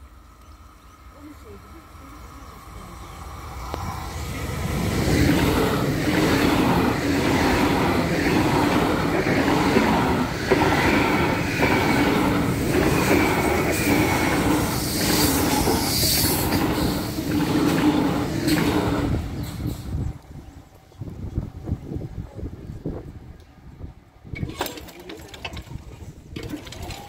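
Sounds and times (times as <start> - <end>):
train rushing past: 0.0 - 24.3.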